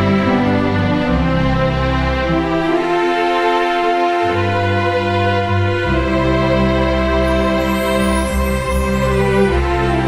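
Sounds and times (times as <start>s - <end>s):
instrumental music with held chords: 0.0s - 10.0s.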